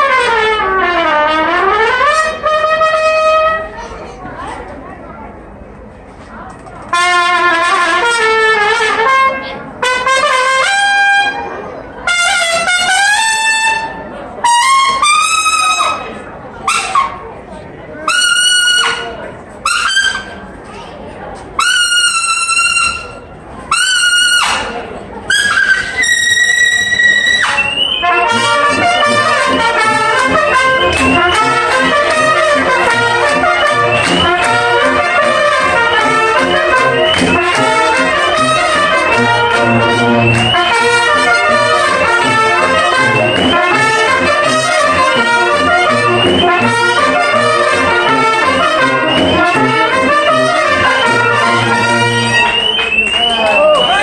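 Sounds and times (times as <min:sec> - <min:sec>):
brass band playing: 0:00.0 - 0:03.8, 0:06.8 - 0:11.4, 0:12.0 - 0:17.3, 0:18.0 - 0:20.4, 0:21.6 - 0:54.0.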